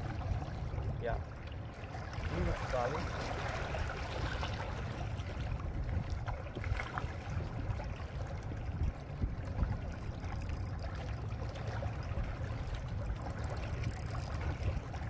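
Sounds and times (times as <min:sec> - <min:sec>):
steady low rumble: 0:00.0 - 0:15.0
waves lapping against rocks: 0:00.0 - 0:15.0.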